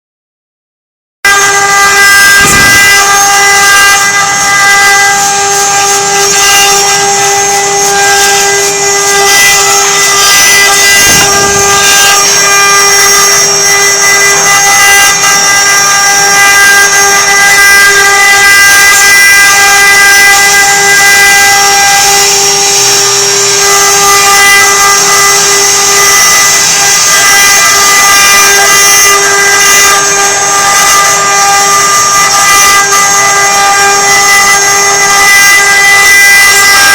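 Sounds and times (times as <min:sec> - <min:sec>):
cnc router spindle whine: 0:01.2 - 0:36.9.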